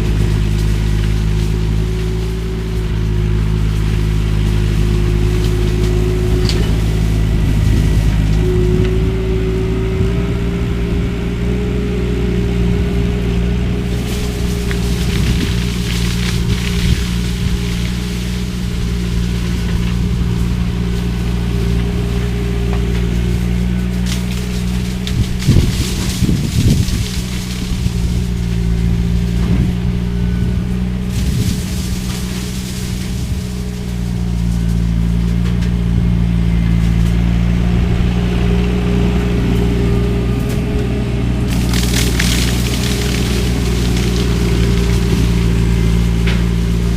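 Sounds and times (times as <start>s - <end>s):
diesel engine and shredder drone: 0.0s - 46.9s.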